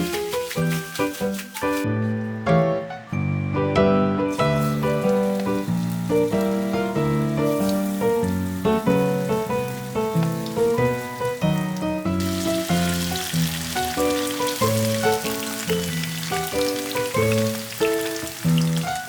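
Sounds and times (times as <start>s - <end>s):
food sizzling: 0.0s - 1.9s, 4.3s - 19.0s
background music with short notes: 0.0s - 19.0s.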